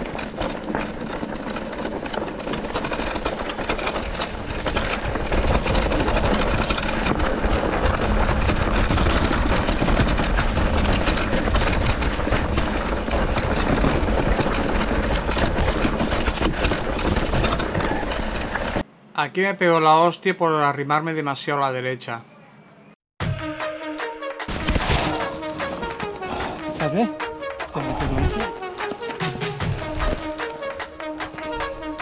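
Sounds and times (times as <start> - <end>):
bike rattling over rough ground: 0.0 - 18.8, 24.4 - 32.0
bike tyre and air rush: 0.0 - 18.8, 24.5 - 32.0.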